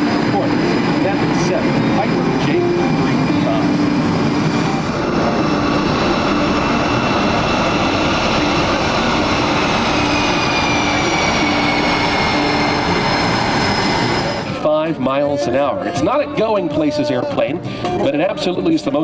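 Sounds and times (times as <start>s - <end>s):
jet engines with high whine: 0.0s - 15.5s.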